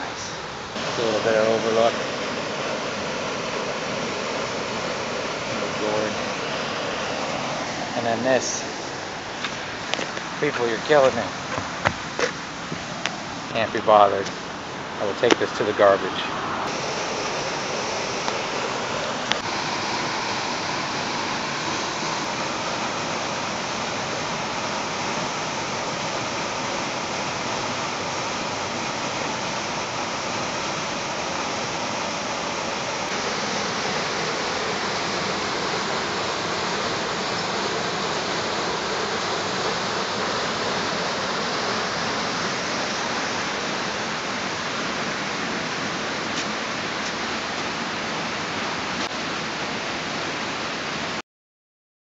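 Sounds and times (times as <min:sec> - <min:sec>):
small waterfall rushing: 0:00.0 - 0:51.2.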